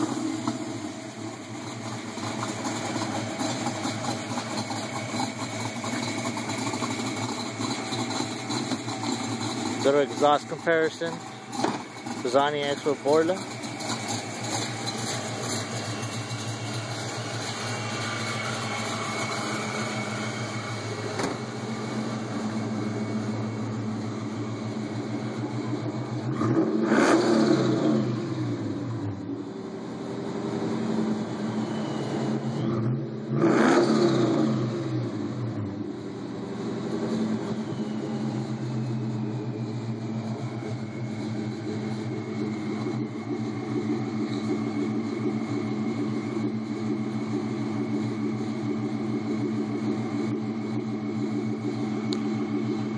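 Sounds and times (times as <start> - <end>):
car engine idling and revving: 0.0 - 52.9.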